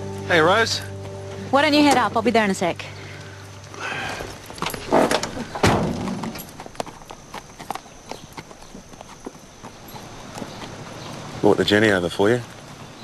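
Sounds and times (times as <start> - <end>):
hooves clip-clopping on hard ground: 0.0 - 13.0.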